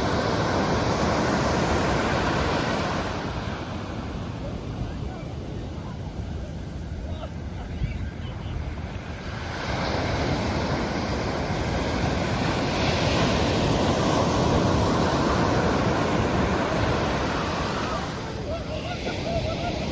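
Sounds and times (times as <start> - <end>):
wave breaking on beach: 0.0 - 7.8, 8.7 - 19.9.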